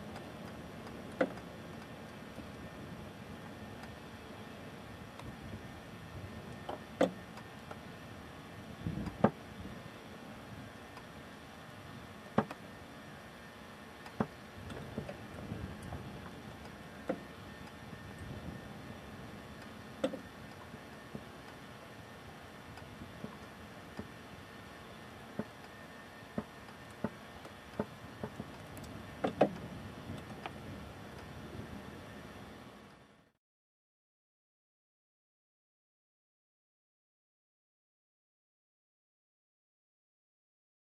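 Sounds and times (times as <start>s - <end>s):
wildfire crackling: 0.0s - 33.2s.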